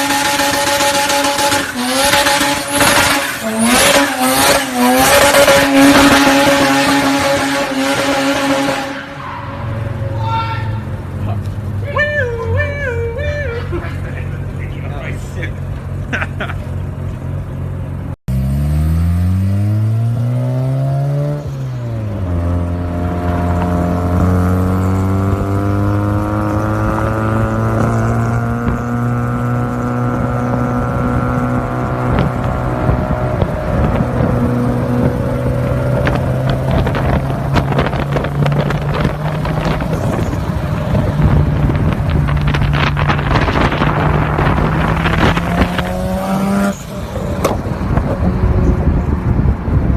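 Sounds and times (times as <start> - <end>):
rotary engine revving: 0.0 - 10.2, 18.3 - 49.9.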